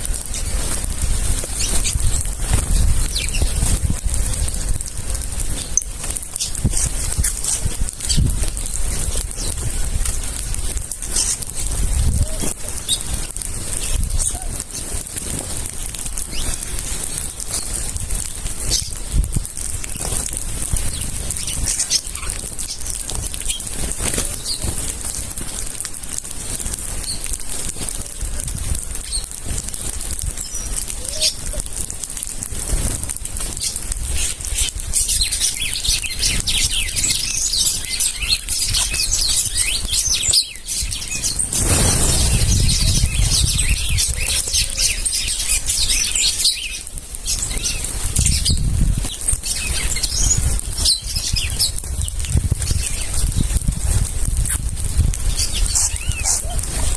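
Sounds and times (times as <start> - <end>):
wings flapping: 0.0 - 56.9
birds chirping: 0.1 - 25.6, 26.9 - 32.3, 33.2 - 53.2, 55.3 - 56.9.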